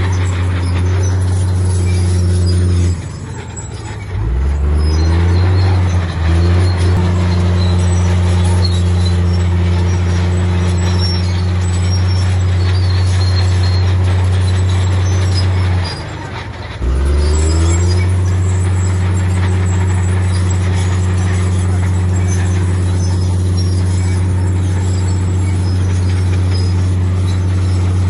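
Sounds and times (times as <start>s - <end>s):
heavy diesel engine under load: 0.0s - 28.0s.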